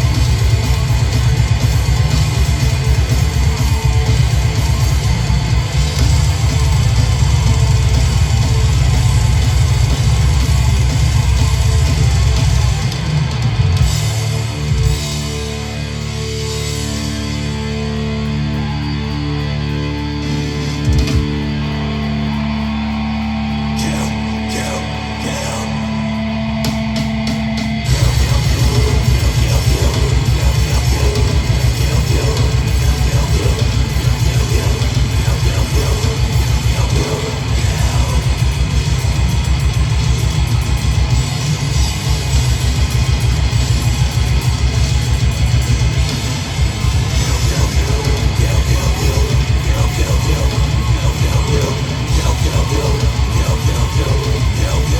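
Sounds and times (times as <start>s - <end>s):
fast dense drumming: 0.0s - 17.7s, 20.3s - 22.8s, 23.6s - 54.9s
distorted guitar and bass: 0.0s - 54.9s
heavy metal band playing live: 0.0s - 54.9s.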